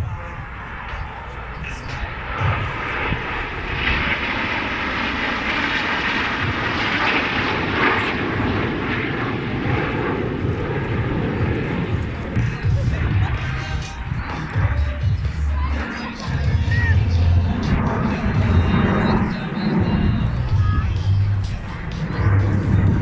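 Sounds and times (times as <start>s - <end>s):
aircraft engines flying past: 0.0s - 23.0s.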